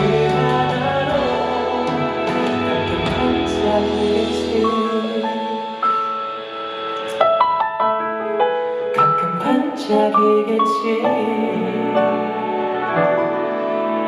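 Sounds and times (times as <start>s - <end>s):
instrumental piano music: 0.0s - 14.0s.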